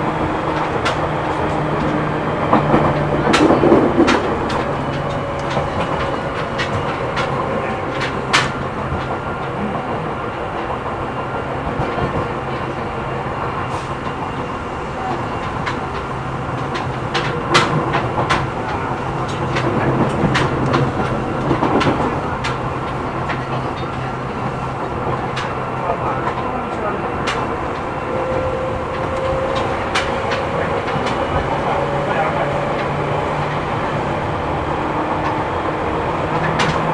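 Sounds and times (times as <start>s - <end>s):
clicks and clacks over rail: 0.0s - 36.9s
train wheels rumbling on rail: 0.0s - 36.9s.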